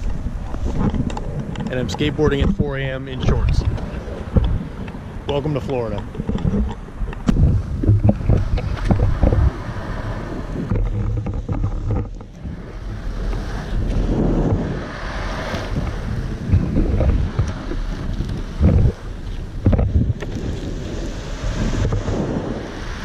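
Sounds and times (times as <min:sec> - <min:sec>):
skateboard wheels rumbling on asphalt: 0:00.0 - 0:23.0
wind buffeting microphone: 0:00.0 - 0:23.0.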